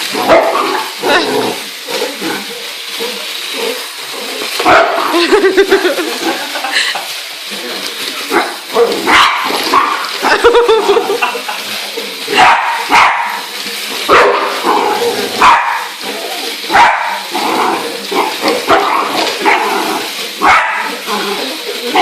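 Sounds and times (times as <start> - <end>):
dogs barking: 0.1 - 5.2, 8.2 - 22.0.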